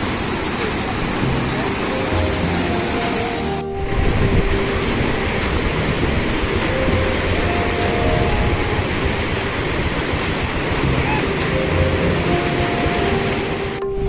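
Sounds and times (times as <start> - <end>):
water rushing down channel: 0.0 - 14.0.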